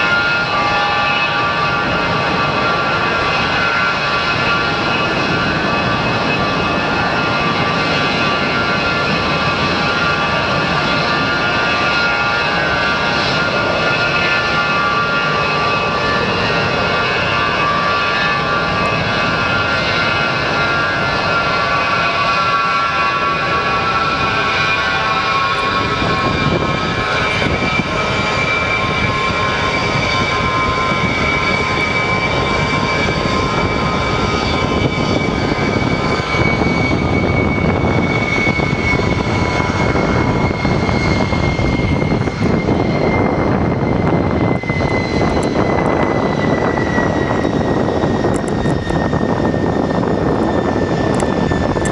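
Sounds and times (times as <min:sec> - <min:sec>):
jet engines roaring with whine: 0:00.0 - 0:51.9.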